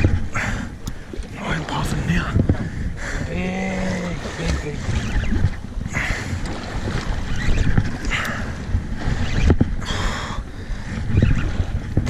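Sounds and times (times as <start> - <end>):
wind and sea low rumble: 0.0 - 12.0.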